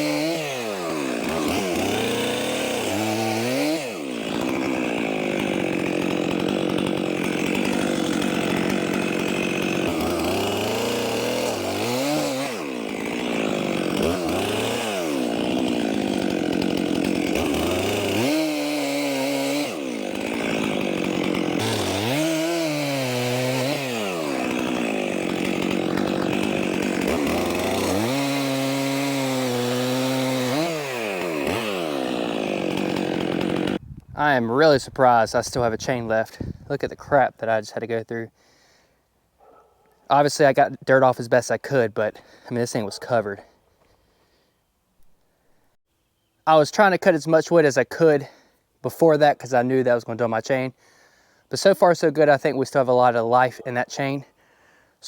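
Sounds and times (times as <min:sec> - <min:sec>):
chainsaw cutting logs: 0:00.0 - 0:38.8, 0:39.4 - 0:44.4, 0:46.5 - 0:55.0.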